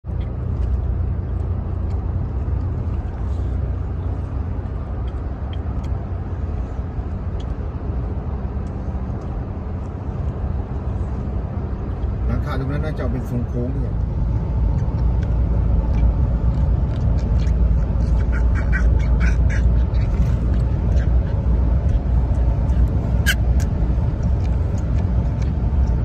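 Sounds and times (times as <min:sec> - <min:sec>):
car interior road rumble: 0:00.0 - 0:26.0.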